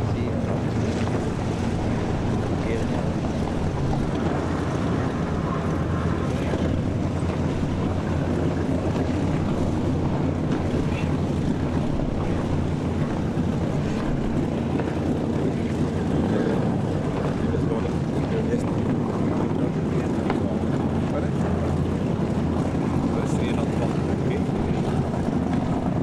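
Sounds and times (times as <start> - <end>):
motors droning on water: 0.0 - 26.0
wind buffeting microphone: 0.0 - 26.0.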